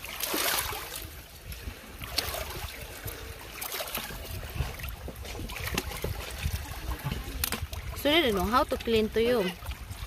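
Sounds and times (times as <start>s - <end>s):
water lapping over rocks: 0.0s - 10.0s.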